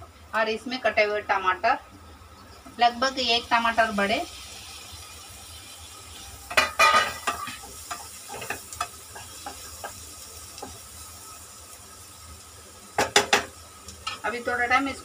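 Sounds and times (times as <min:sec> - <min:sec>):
low frying sizzle: 0:00.0 - 0:15.0.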